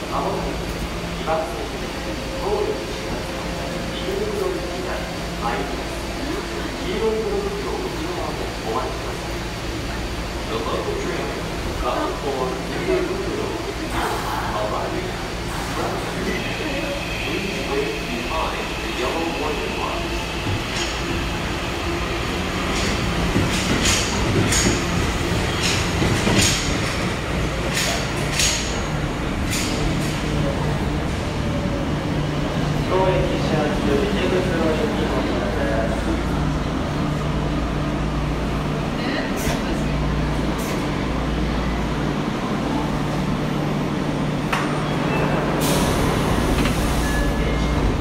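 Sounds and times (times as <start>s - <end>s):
subway train humming: 0.0s - 48.0s.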